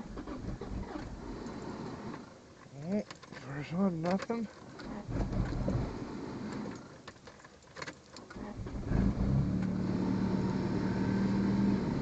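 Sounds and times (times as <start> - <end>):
car engine cranking and starting: 0.0 - 12.0.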